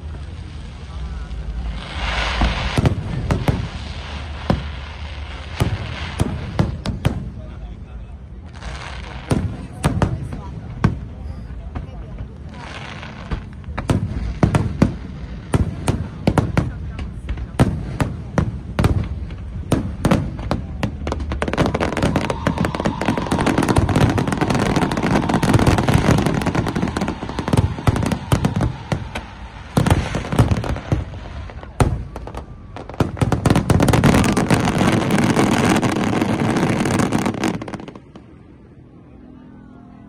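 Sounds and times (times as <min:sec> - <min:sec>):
fireworks bangs and crackling: 0:00.0 - 0:38.8.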